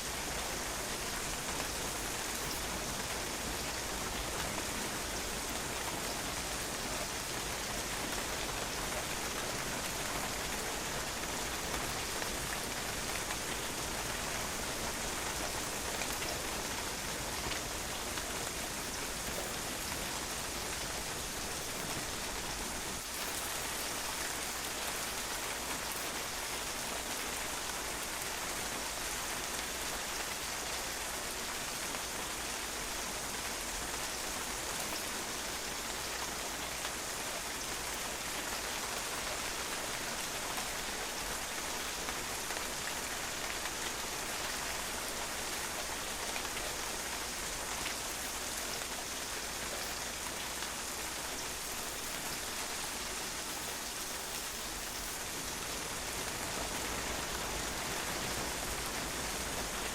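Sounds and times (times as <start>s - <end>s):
rain splashing on a patio: 0.0s - 59.9s.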